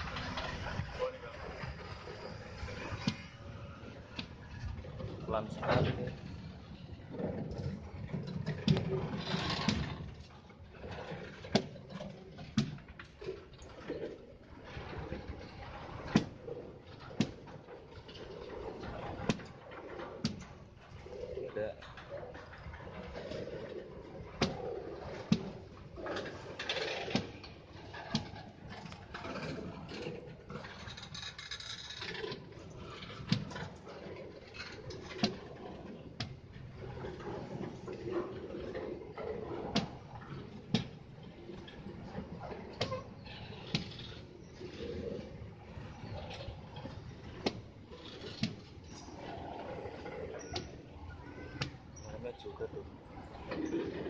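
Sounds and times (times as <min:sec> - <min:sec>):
rail wagons rumbling: 0:00.0 - 0:54.0.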